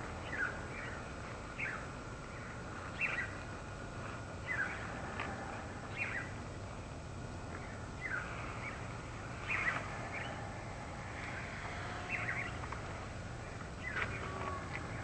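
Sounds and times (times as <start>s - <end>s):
birds chirping: 0.0s - 3.6s, 4.4s - 6.4s, 7.4s - 15.0s
breeze rushing: 0.0s - 15.0s.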